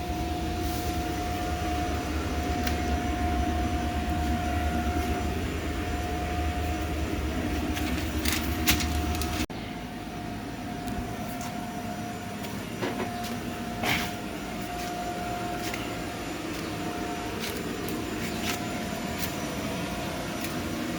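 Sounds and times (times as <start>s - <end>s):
thin steady whine: 0.0s - 20.9s
ventilation fan humming: 0.0s - 20.9s.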